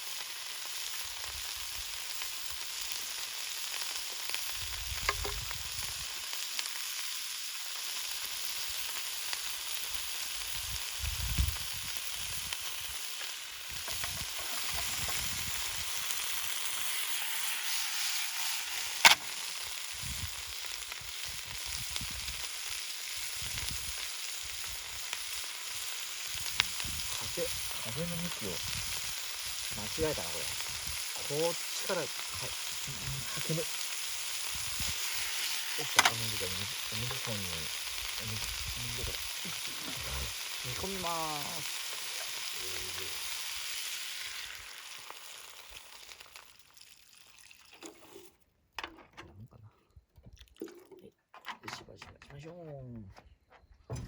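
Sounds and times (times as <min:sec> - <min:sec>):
food sizzling in a pot: 0:00.0 - 0:48.4.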